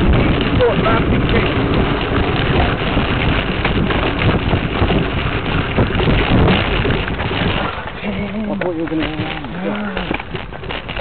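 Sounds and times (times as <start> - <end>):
bike rattling rumble: 0.0 - 11.0
wind on microphone: 0.0 - 11.0.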